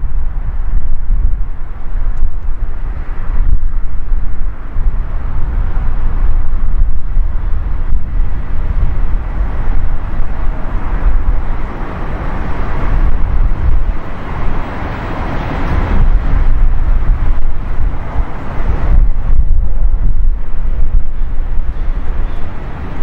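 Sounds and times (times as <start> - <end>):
jet engine rushing: 0.0 - 23.0
wind rumble on microphone: 0.0 - 23.0.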